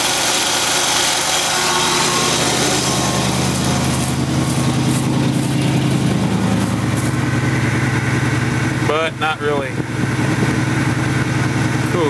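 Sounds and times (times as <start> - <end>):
car engine idling: 1.2 - 12.0.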